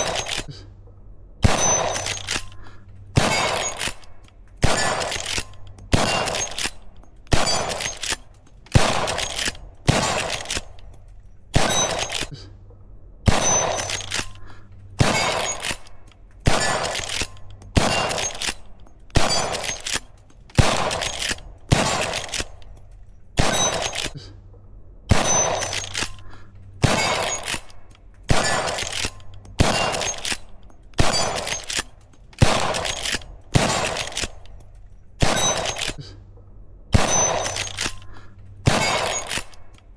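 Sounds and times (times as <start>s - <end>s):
rifle shots: 0.0s - 0.5s, 1.4s - 12.3s, 13.3s - 22.8s, 23.4s - 24.2s, 25.1s - 36.1s, 36.9s - 39.8s.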